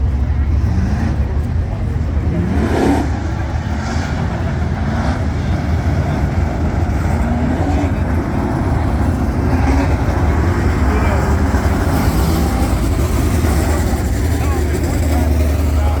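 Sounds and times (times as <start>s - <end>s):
race truck engines revving: 0.0s - 16.0s.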